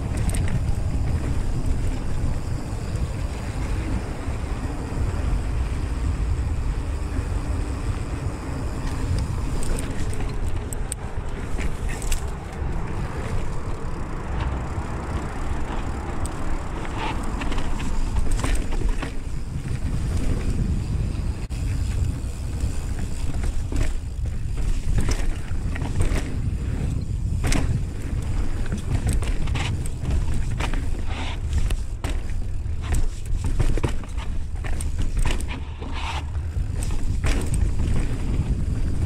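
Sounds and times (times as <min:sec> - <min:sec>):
bike clicking and rattling: 0:00.0 - 0:39.0
tyres on dirt: 0:00.0 - 0:39.0
wind on camera microphone: 0:00.0 - 0:39.0.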